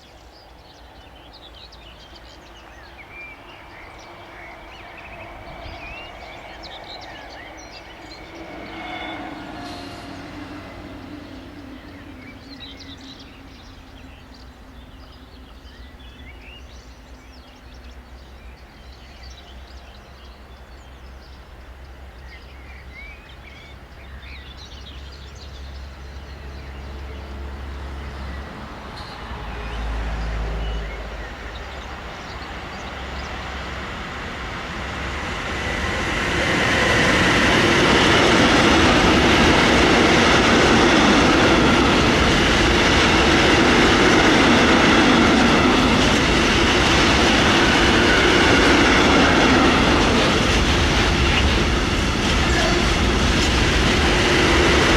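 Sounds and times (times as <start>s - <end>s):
train wheels on rails: 0.0s - 22.0s, 26.9s - 54.9s
birds chirping: 0.0s - 54.9s.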